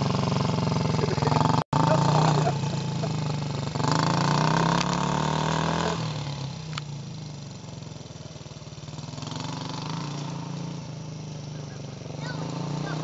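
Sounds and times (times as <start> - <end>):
small atv engine running: 0.0 - 13.0.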